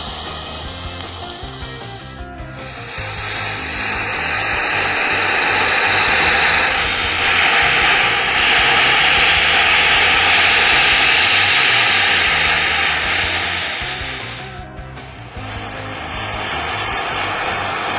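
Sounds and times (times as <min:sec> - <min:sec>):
plasma cutter cutting steel: 0:00.0 - 0:17.9.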